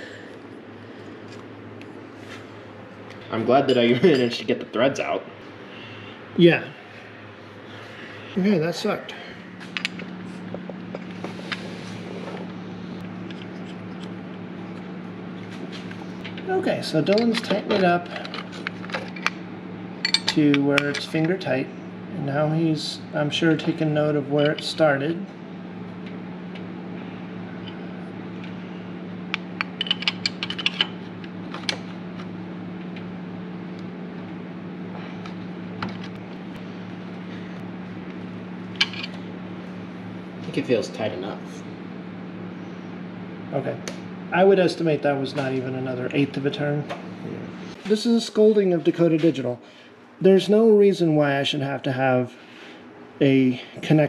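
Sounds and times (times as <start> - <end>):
low hum: 0.0 - 50.8.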